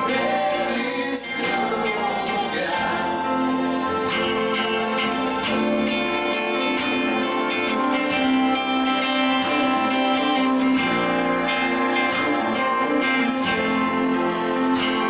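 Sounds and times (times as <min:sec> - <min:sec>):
strummed guitar with held chords: 0:00.0 - 0:15.0.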